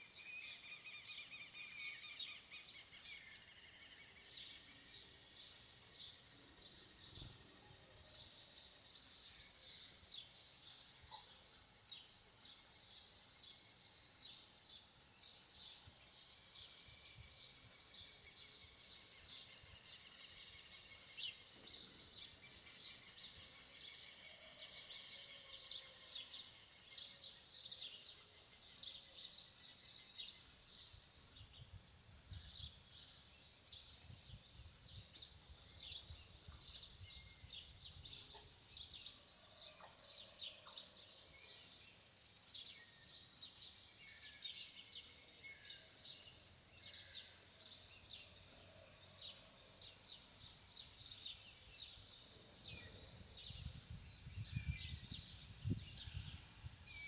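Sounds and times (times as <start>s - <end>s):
faint birds chirping: 0.0s - 57.0s
low background hiss: 0.0s - 57.0s.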